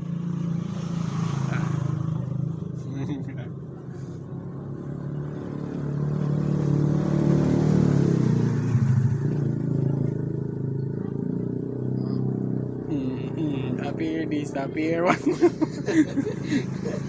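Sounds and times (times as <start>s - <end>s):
motor engine running: 0.0s - 6.9s, 7.9s - 17.0s.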